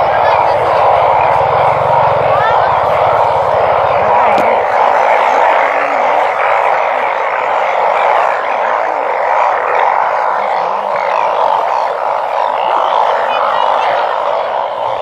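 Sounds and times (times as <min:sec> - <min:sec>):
chorus of small animals calling: 0:00.0 - 0:15.0.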